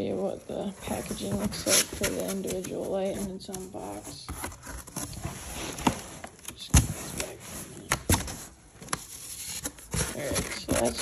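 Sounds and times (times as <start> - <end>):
packaging rustling: 0.8 - 11.0.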